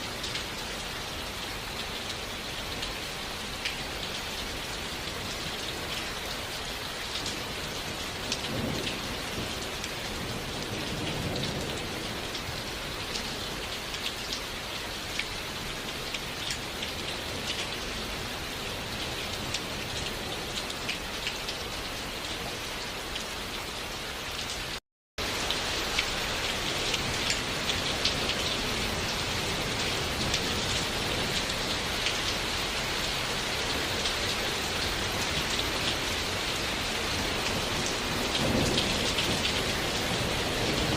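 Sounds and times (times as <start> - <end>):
rain drops ticking on a surface: 0.0 - 40.9.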